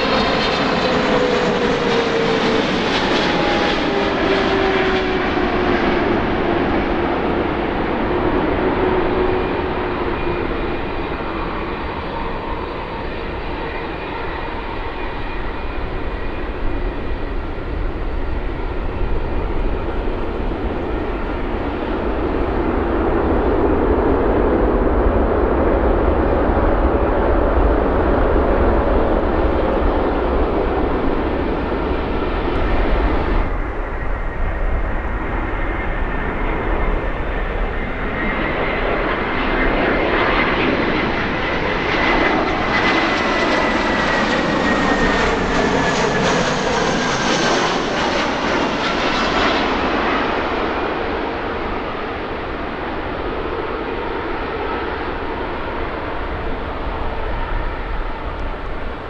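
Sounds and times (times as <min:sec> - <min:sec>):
high-pitched jet engine whine: 0:00.0 - 0:59.0
jet engines roaring on rollout: 0:00.0 - 0:59.0.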